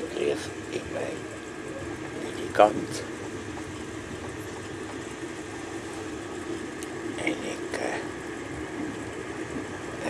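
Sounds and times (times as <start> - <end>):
train rumble: 0.0 - 10.0
faint clicks and rustles: 0.4 - 10.0.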